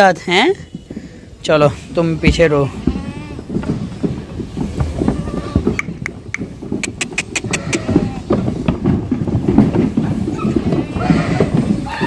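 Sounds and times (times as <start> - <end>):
hooves clattering on brick: 0.0 - 12.0.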